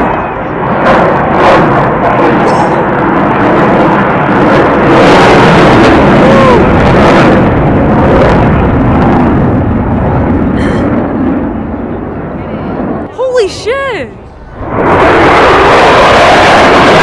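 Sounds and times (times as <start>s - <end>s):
aircraft flying past: 0.0s - 17.0s.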